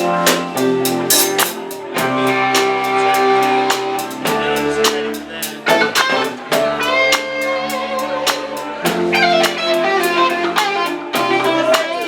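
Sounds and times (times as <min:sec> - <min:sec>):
bass: 0:00.0 - 0:12.0
drum beat with cymbal and snare: 0:00.0 - 0:12.0
held guitar notes: 0:00.0 - 0:12.0.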